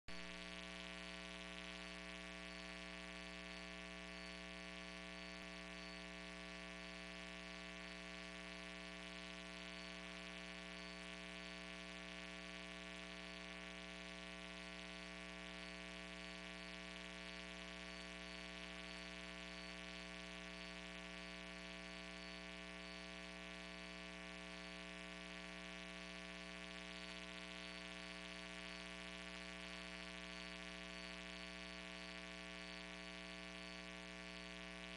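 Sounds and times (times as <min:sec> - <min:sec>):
electrical mains hum: 0:00.1 - 0:34.9.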